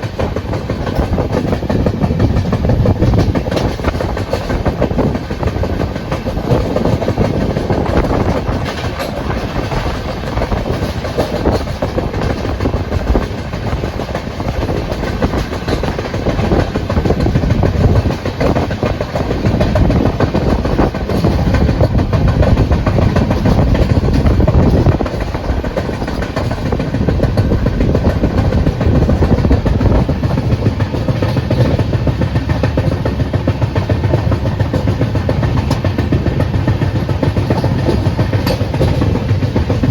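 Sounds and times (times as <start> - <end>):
vehicle rumble and rattling: 0.0 - 39.9.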